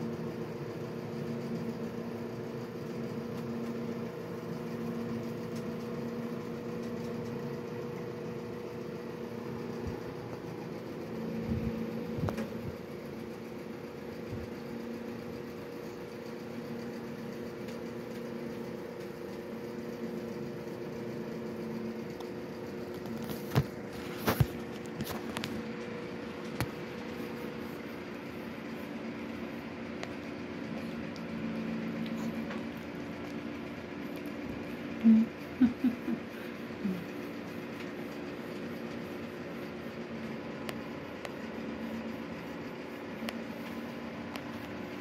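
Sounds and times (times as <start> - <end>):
steady machine hum: 0.0 - 45.0.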